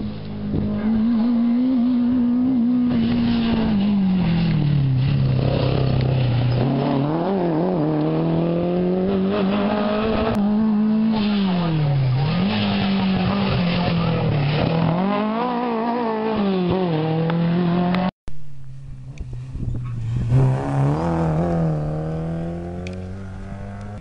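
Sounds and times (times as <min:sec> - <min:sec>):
rally car engine at full throttle: 0:00.0 - 0:24.0.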